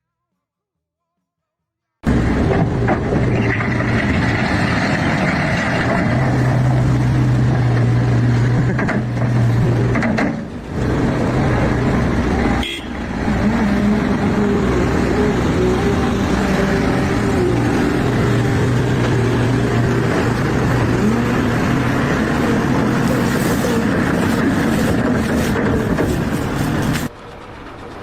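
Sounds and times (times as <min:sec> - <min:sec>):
engine running steadily: 0:02.0 - 0:28.0.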